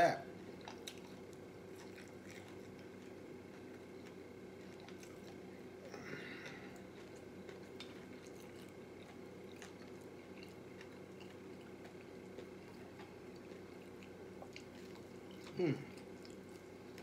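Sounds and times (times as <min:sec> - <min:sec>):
chewing food: 0:00.4 - 0:17.0.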